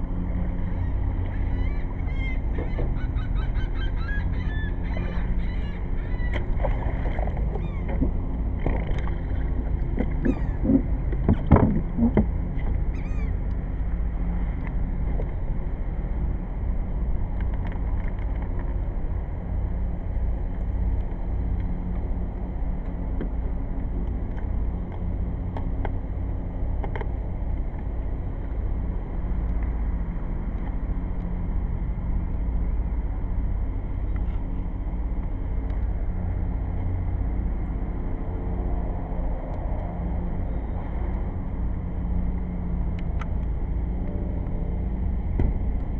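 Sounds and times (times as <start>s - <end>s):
watercraft engine running: 0.0s - 45.9s.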